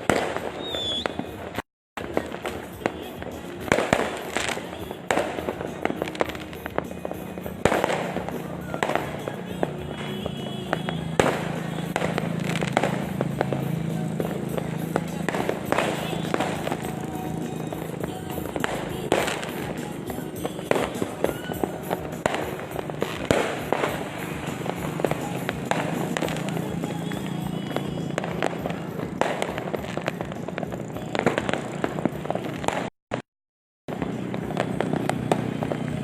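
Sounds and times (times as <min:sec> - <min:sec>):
fireworks bangs and pops: 0:00.0 - 0:33.2, 0:33.9 - 0:36.0
steady background din: 0:00.1 - 0:32.8.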